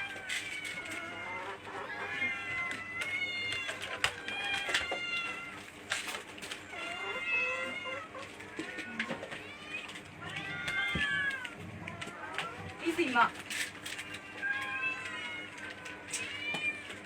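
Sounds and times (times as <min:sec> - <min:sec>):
cats meowing: 0:00.0 - 0:17.0.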